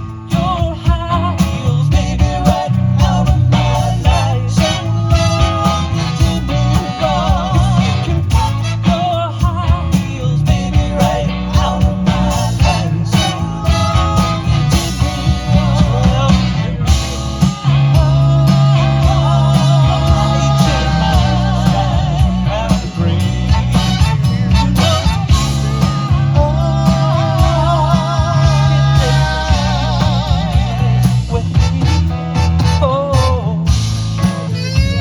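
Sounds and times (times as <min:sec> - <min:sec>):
bass line: 0:00.0 - 0:35.0
drums: 0:00.0 - 0:35.0
horn band playing upbeat tune: 0:02.1 - 0:35.0.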